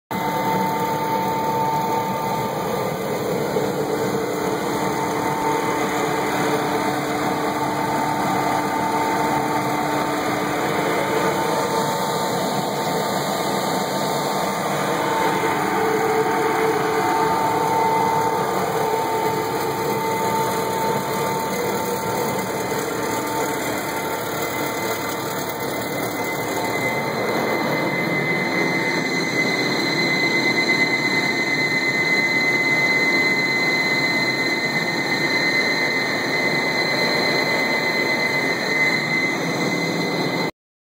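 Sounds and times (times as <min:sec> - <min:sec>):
industrial fan rushing whir: 0:00.1 - 0:40.5
electric motor whine: 0:00.2 - 0:40.5.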